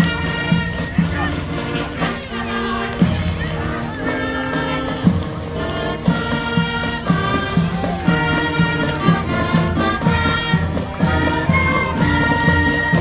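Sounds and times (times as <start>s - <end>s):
parade band music: 0.0s - 13.0s.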